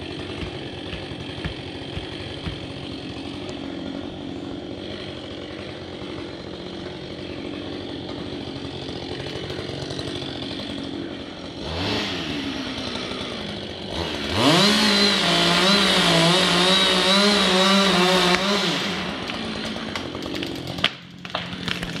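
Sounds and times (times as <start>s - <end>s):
chainsaw idling and revving: 0.0s - 22.0s.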